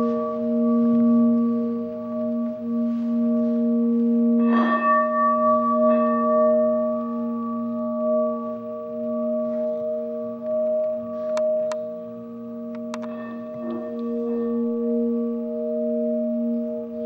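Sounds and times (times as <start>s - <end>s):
crystal singing bowls ringing: 0.0s - 17.0s
singing bowl struck: 0.0s - 17.0s.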